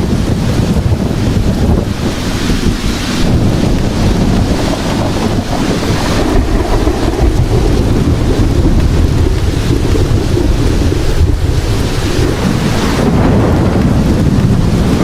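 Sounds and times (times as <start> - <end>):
heavy rain with low rumble: 0.0 - 15.0.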